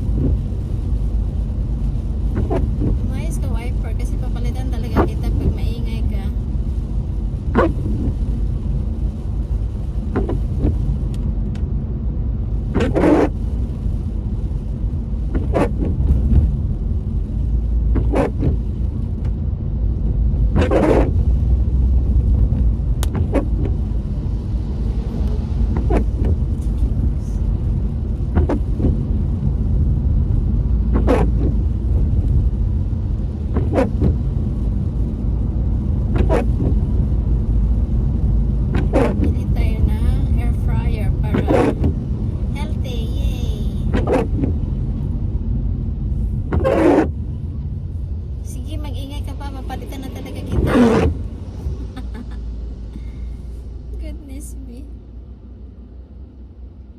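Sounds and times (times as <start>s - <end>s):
car road rumble inside cabin: 0.0s - 56.9s
rain: 0.0s - 56.9s
windscreen wipers sweeping: 0.0s - 56.9s.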